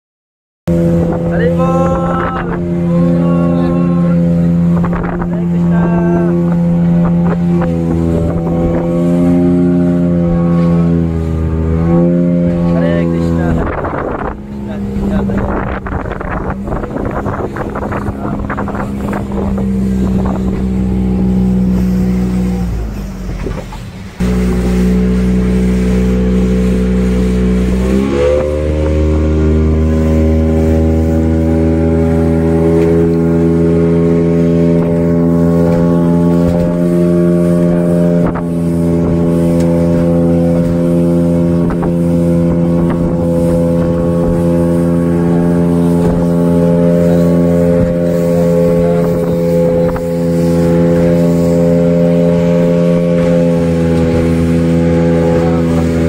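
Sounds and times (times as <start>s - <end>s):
motorboat engine running: 0.7s - 56.0s.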